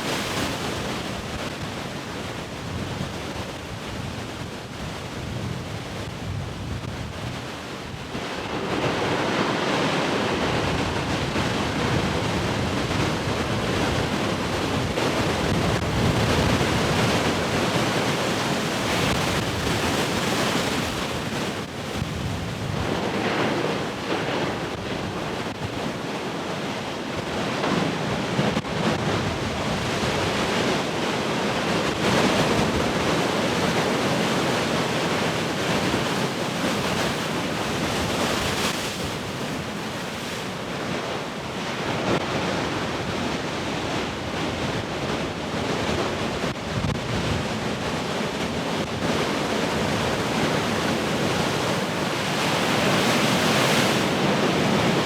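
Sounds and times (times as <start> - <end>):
large waves breaking: 0.0 - 55.0
wind buffeting microphone: 0.0 - 55.0.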